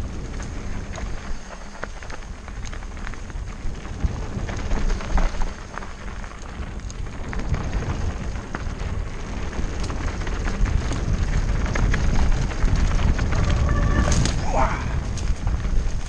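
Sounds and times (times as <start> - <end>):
bike rattling: 0.0 - 16.0
tyres rolling over dirt: 0.0 - 16.0
wind buffeting microphone: 0.0 - 16.0.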